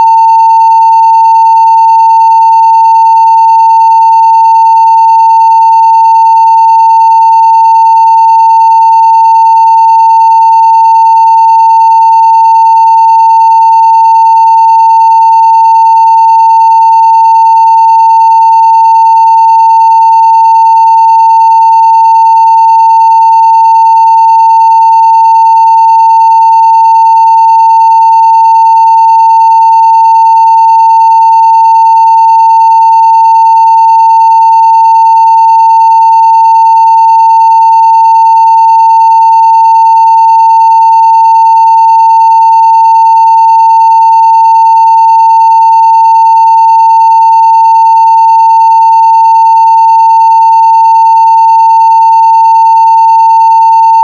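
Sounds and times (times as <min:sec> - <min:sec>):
sine wave test tone: 0:00.0 - 0:54.0.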